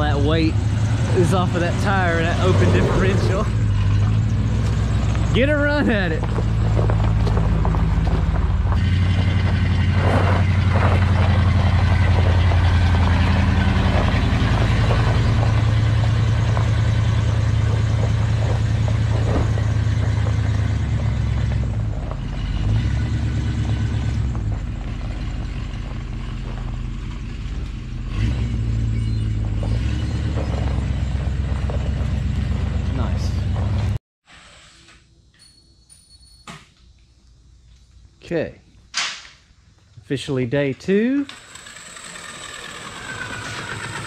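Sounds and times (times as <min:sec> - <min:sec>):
van engine running: 0:00.0 - 0:34.0, 0:41.4 - 0:44.0.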